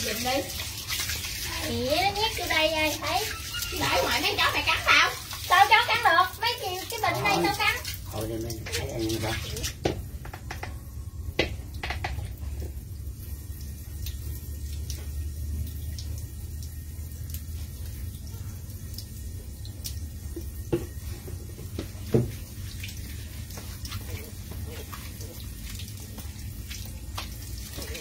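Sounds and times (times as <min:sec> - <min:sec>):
water running and splashing: 0:00.0 - 0:10.2, 0:10.8 - 0:28.0
water drips: 0:00.0 - 0:28.0.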